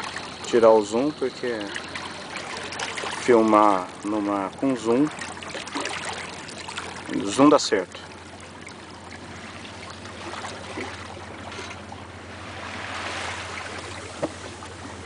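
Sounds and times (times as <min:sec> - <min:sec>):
water lapping along a boat hull: 0:00.0 - 0:15.0.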